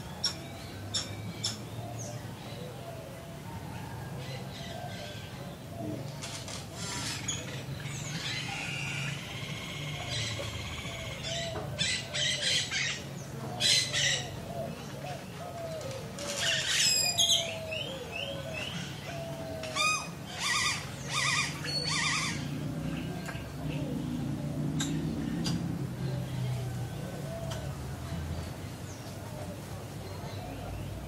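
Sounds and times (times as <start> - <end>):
birds calling and chirping: 0.0 - 31.0.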